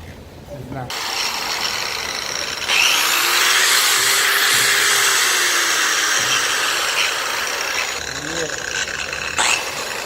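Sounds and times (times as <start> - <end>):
angle grinder running: 0.9 - 10.0.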